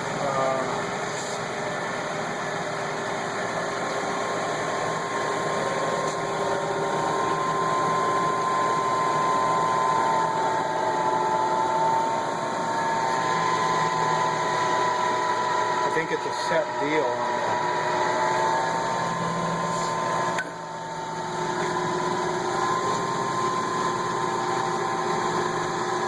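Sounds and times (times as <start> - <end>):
grinding machine hum with whine: 0.0 - 26.0.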